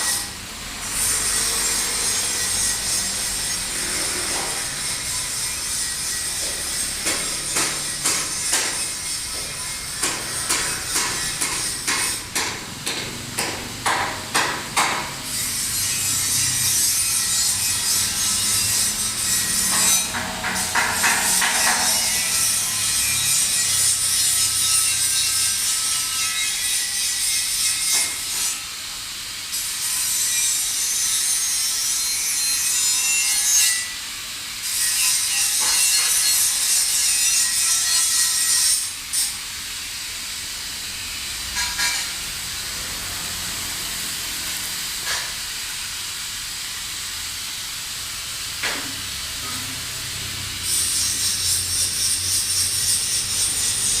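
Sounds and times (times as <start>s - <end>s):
power grinder hissing: 0.0s - 13.8s, 14.8s - 27.0s, 34.5s - 54.0s.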